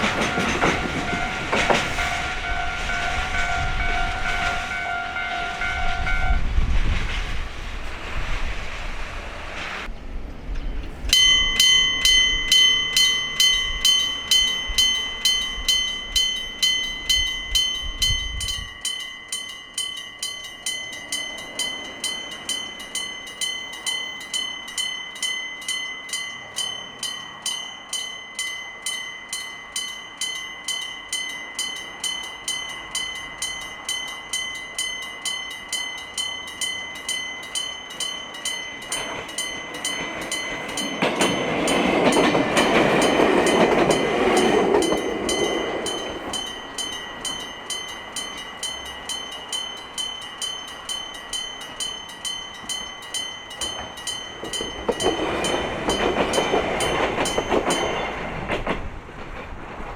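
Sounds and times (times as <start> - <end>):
railroad crossing warning bell: 0.0 - 59.9
train rumbling past: 0.0 - 59.9.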